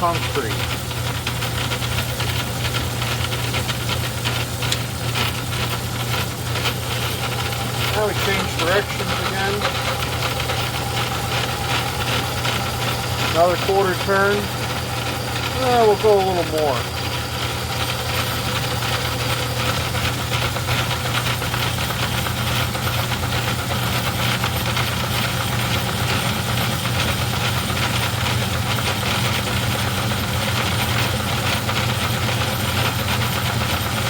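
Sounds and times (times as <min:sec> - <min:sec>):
drive clattering: 0:00.0 - 0:29.7
metal lathe motor hum: 0:00.0 - 0:34.0.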